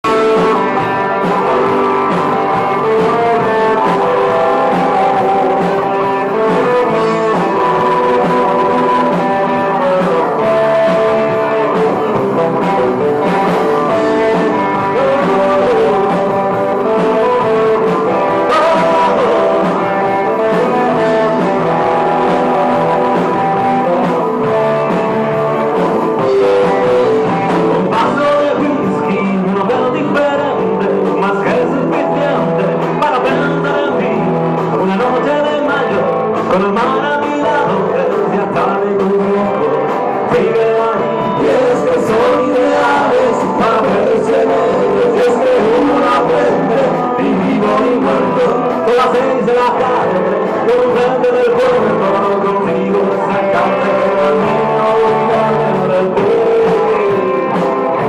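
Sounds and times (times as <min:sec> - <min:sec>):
guitar band music: 0:00.0 - 0:58.0
person singing: 0:00.0 - 0:58.0.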